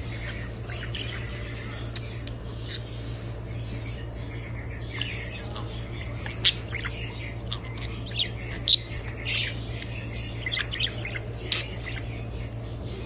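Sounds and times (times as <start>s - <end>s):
small parrots chirping: 0.0s - 13.0s
steady low hum: 0.0s - 13.0s.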